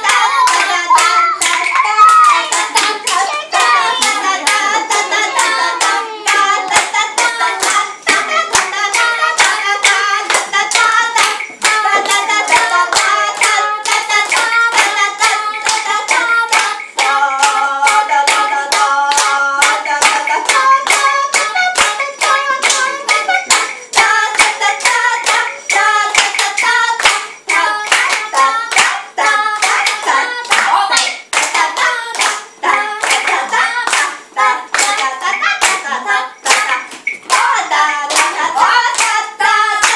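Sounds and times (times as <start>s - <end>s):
hands clapping in rhythm: 0.0s - 39.9s
voices singing along: 0.0s - 39.9s.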